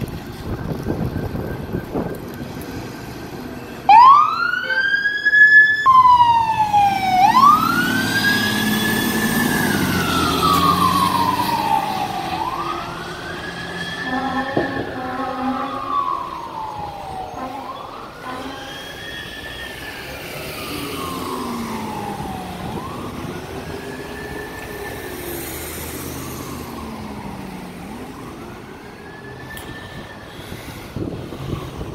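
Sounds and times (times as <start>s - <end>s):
fire truck siren wailing: 0.0s - 31.9s.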